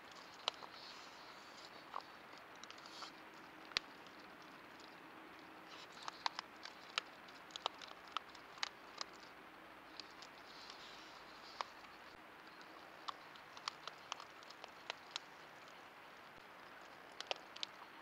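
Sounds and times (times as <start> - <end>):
raccoon clicking and tapping: 0.1 - 18.0.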